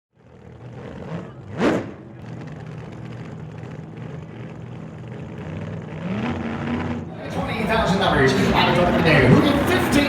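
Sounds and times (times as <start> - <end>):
car engine idling: 0.2 - 10.0.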